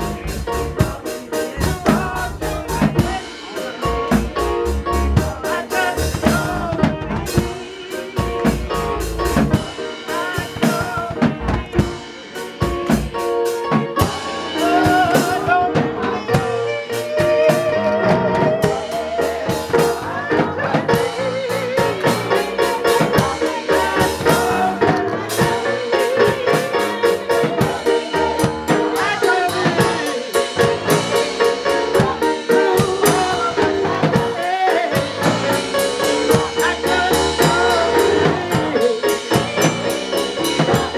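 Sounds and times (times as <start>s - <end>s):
drum kit playing: 0.0s - 40.9s
gospel choir singing: 0.0s - 40.9s
keyboard accompaniment: 0.0s - 40.9s.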